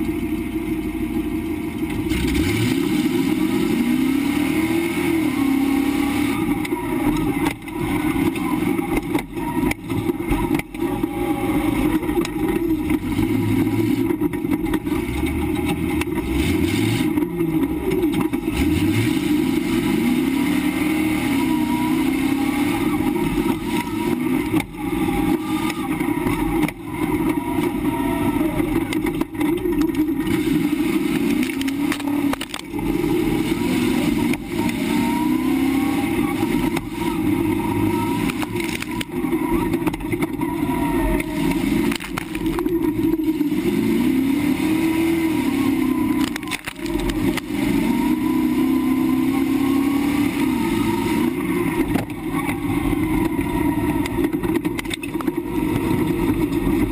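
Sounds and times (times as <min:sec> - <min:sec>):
truck engine revving: 0:01.1 - 0:56.9.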